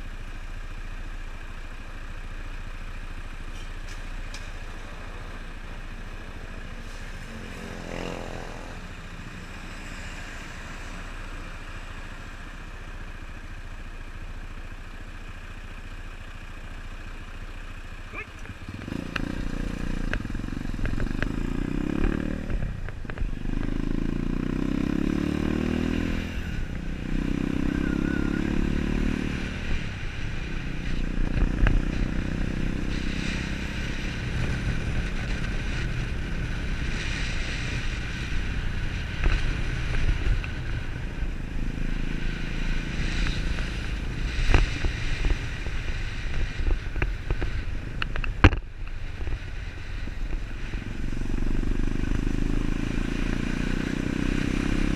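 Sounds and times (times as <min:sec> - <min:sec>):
motorcycle engine revving: 0:03.5 - 0:12.8, 0:18.0 - 0:54.9.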